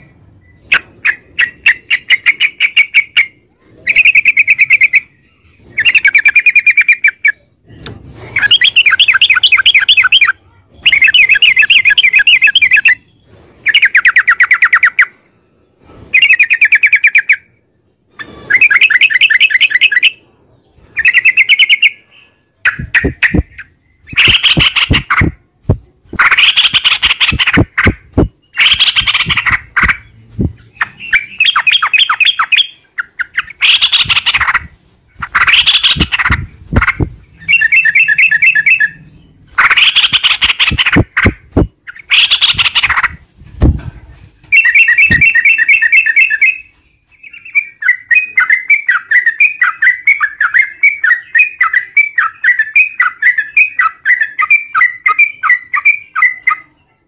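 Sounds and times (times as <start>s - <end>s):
bulbul song chattering: 0.0s - 15.2s, 16.2s - 43.8s, 44.4s - 56.8s.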